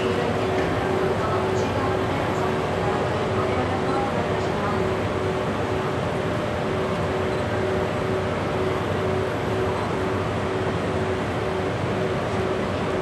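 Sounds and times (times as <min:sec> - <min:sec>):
crowded station platform noise: 0:00.0 - 0:13.0
electric locomotive humming: 0:00.0 - 0:13.0.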